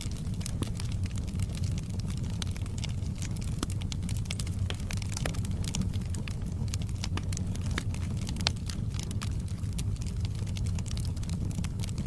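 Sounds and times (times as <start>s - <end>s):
crackles and pops of burning logs: 0.0s - 12.0s
low rumble of flames: 0.0s - 12.0s.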